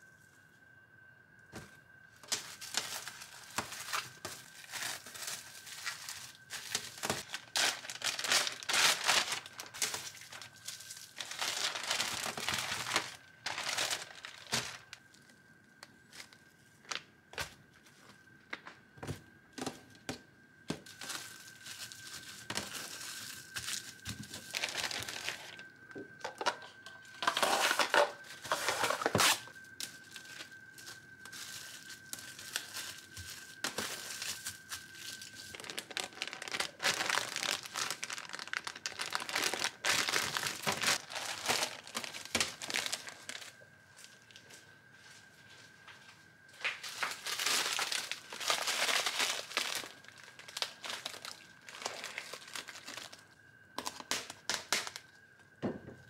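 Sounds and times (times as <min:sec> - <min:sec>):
plastic packaging crinkling and tearing: 0:02.2 - 0:17.5, 0:20.7 - 0:44.4, 0:46.6 - 0:55.2.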